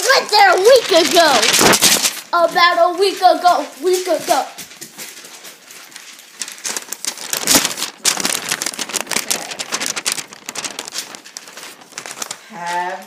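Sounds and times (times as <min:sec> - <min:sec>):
paper rustling and crackling: 0:00.0 - 0:13.0.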